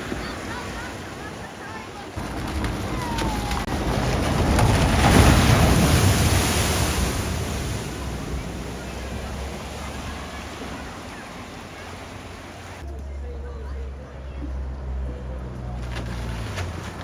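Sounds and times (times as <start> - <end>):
vehicle splashing through water: 2.2 - 12.8, 13.6 - 17.0.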